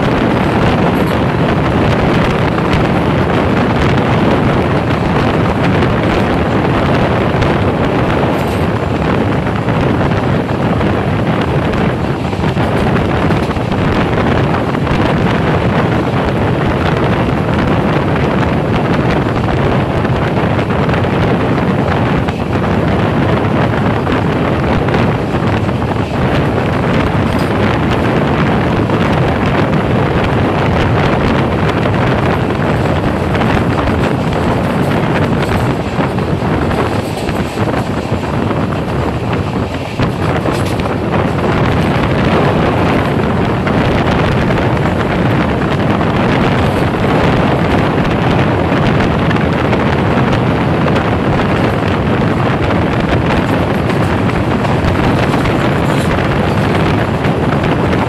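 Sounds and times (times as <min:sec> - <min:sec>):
train wheels on rails: 0:00.0 - 0:58.0
wind buffeting microphone: 0:00.0 - 0:58.0.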